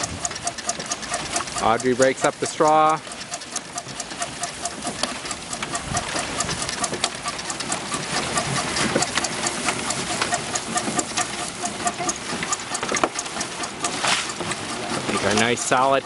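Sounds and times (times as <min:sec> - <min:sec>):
drum mixer clattering: 0:00.0 - 0:16.0.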